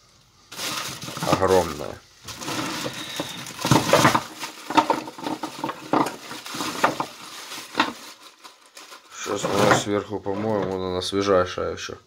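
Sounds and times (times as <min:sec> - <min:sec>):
plastic bag crinkling: 0:00.5 - 0:10.8.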